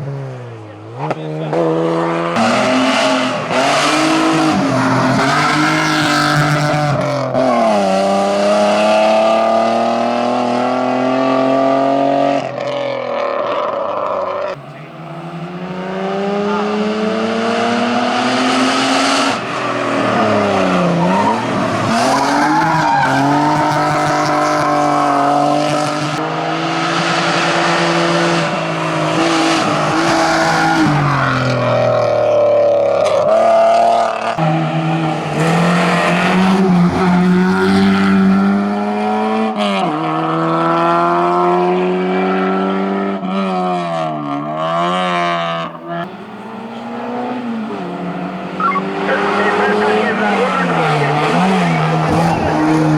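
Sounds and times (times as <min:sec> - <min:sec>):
race car engine revving hard: 0:00.0 - 0:52.9.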